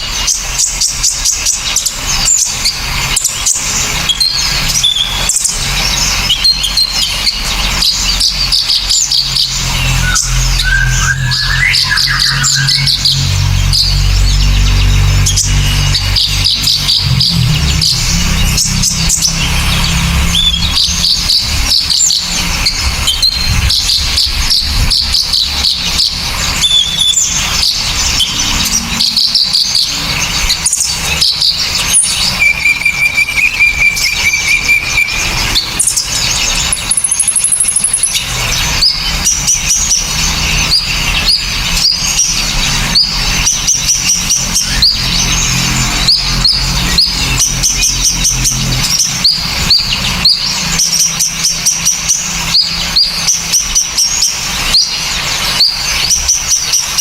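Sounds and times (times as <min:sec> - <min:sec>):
bird whistle: 0:00.0 - 0:57.0
high bird trill: 0:00.0 - 0:57.0
songbirds chirping and twittering: 0:00.0 - 0:57.0.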